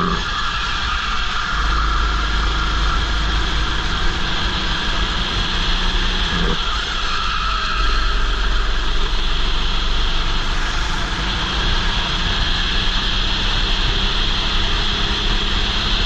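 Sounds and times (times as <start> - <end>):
kart engine running hard: 0.0 - 16.0.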